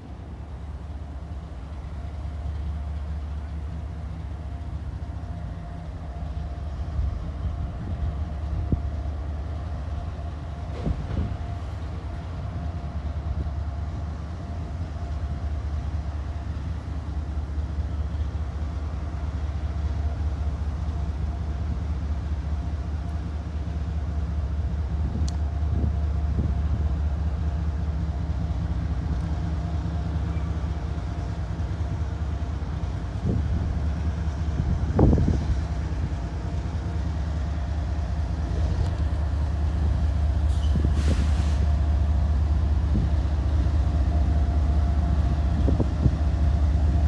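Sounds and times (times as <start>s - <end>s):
diesel locomotive engine rumbling: 0.0s - 47.0s.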